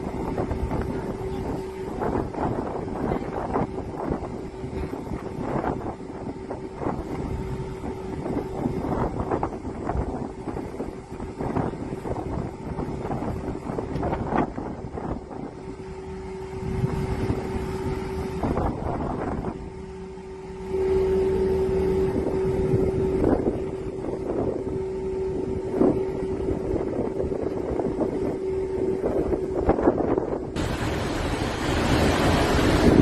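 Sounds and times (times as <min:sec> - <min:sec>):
steady hum: 0:00.0 - 0:33.0
wind buffeting microphone: 0:00.0 - 0:33.0.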